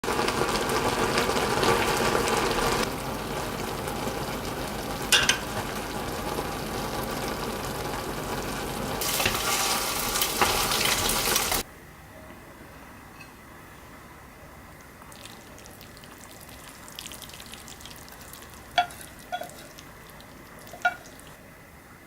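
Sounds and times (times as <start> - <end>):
noodles sizzling in a pan: 0.0 - 11.6, 15.0 - 21.5.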